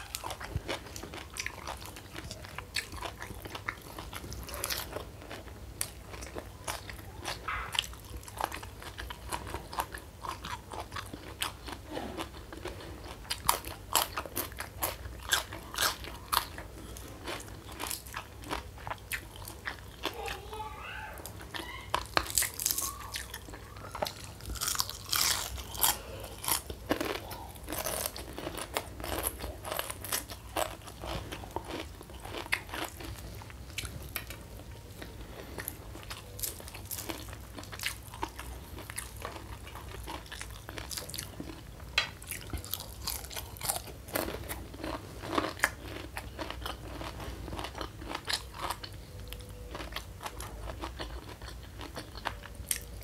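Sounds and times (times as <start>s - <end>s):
chewing and crunching food: 0.0s - 53.0s.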